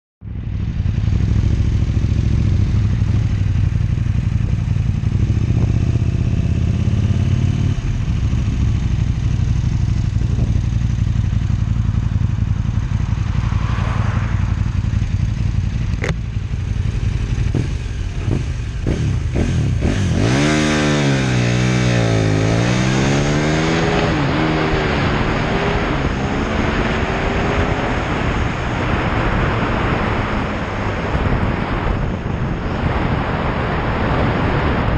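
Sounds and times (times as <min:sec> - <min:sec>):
motorcycle engine revving: 0:00.2 - 0:34.9
wind rushing: 0:00.8 - 0:34.9.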